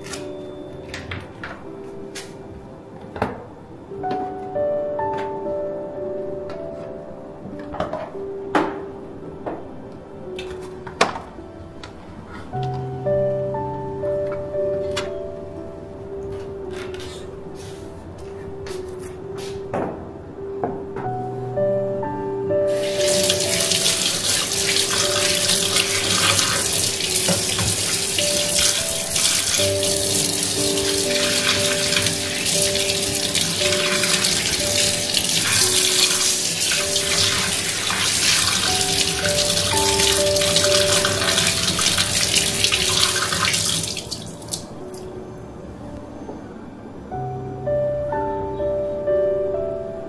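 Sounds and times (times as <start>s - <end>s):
soft piano music: 0.0s - 50.0s.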